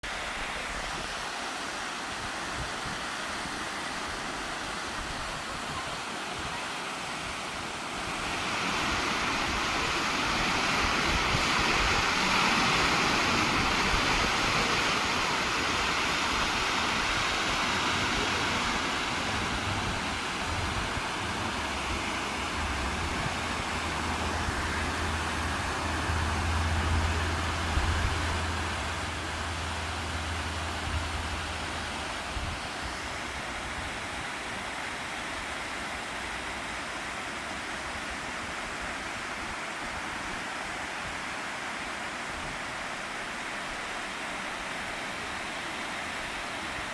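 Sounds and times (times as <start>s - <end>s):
stream water rushing: 0.0s - 46.9s
wind: 0.0s - 46.9s.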